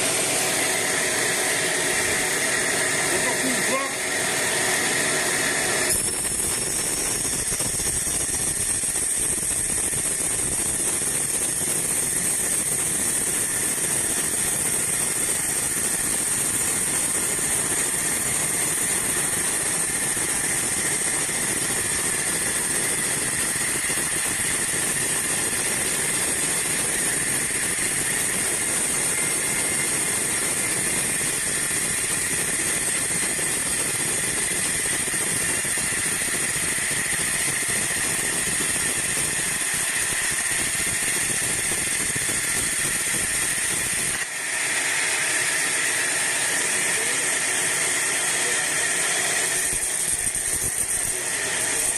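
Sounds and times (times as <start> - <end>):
band saw running: 0.0 - 51.9.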